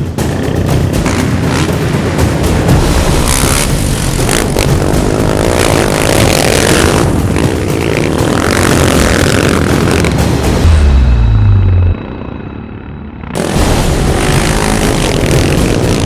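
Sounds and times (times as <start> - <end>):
quad engines revving: 0.1 - 10.6, 13.3 - 16.0.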